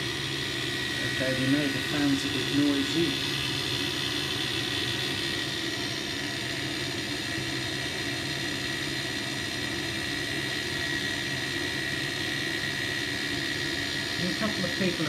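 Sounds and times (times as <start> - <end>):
constant high whine: 0.0 - 15.0
gas boiler fan whirring: 0.0 - 15.0.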